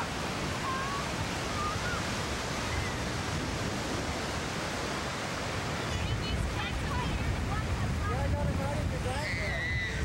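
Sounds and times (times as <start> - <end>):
waves breaking on beach: 0.0 - 10.0.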